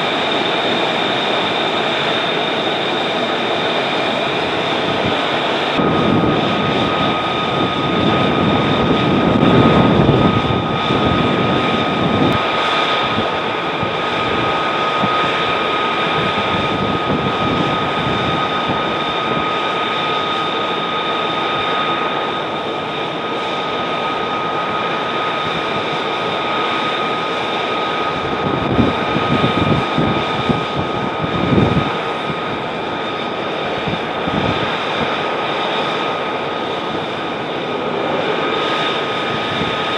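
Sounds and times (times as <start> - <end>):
jet engine whine and rush: 0.0 - 39.9.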